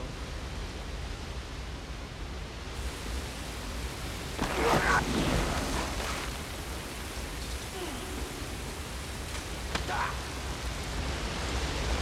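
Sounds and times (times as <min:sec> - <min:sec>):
waterfall roaring: 0:02.1 - 0:12.0.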